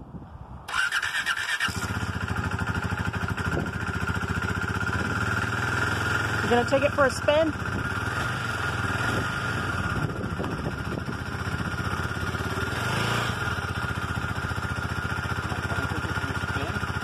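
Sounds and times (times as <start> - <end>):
motorcycle engine idling: 0.7 - 17.0.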